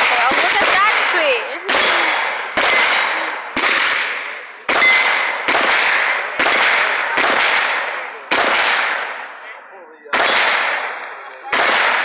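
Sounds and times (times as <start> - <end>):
gunshots echoing: 0.0 - 12.0.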